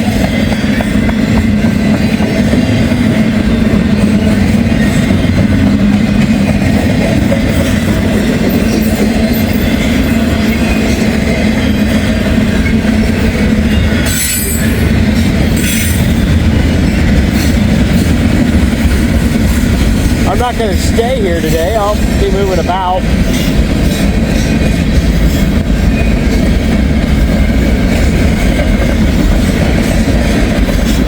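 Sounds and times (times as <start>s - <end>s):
freight train rumbling on rails: 0.0s - 31.0s.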